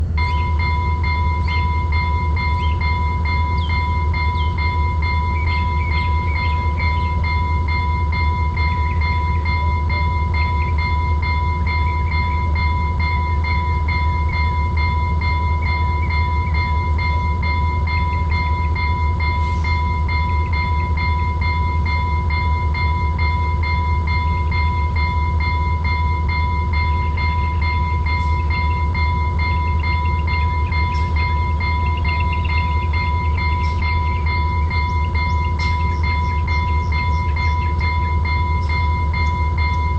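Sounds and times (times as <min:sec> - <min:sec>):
constant low hum: 0:00.0 - 0:39.9
electronic bell ringing: 0:00.0 - 0:39.9.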